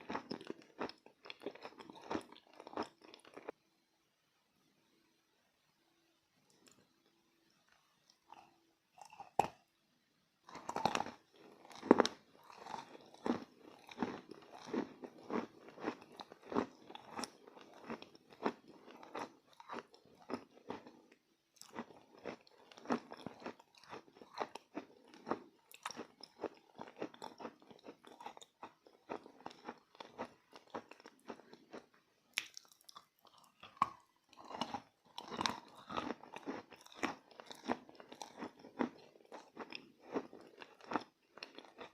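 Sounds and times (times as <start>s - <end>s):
person chewing crunchy chalk: 0.0s - 3.5s, 10.5s - 41.9s.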